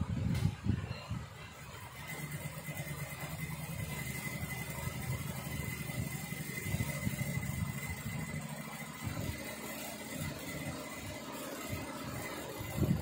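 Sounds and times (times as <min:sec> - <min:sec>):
faint high whine: 0:00.0 - 0:13.0
sewing machine stitching: 0:01.5 - 0:13.0.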